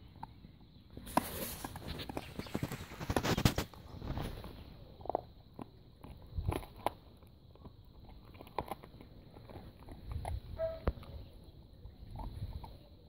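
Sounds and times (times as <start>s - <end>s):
dog crunching on bone: 0.0s - 13.0s.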